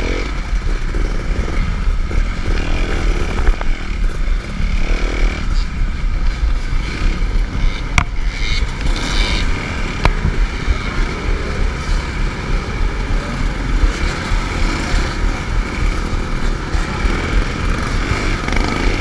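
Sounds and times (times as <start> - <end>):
wind and jolts on microphone: 0.0 - 19.0.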